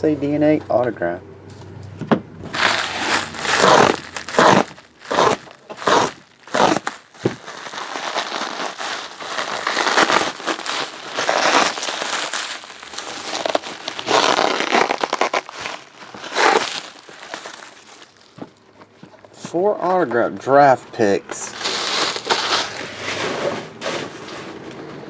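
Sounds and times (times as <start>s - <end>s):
plastic wrapping crinkling: 2.5s - 20.5s, 21.2s - 23.6s.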